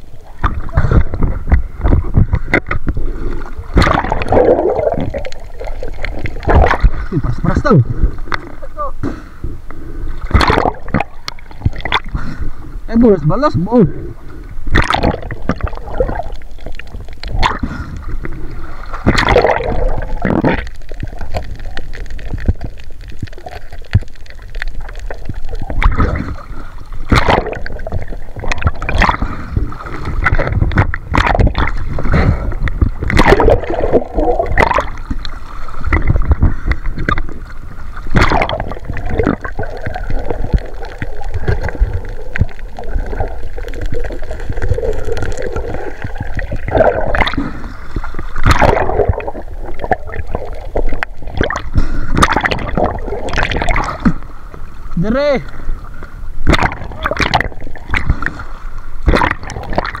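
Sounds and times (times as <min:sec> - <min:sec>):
seawater gurgling and sloshing: 0:00.0 - 1:00.0.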